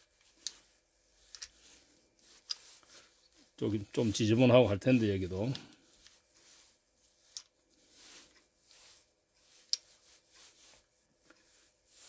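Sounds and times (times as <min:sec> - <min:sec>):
cloth rubbing on metal parts: 0:00.0 - 0:12.0.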